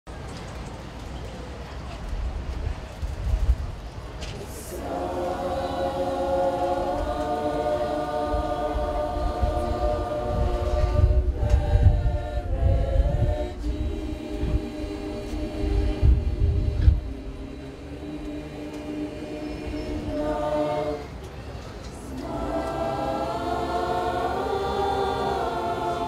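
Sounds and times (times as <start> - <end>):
choir singing a cappella: 4.2 - 26.0.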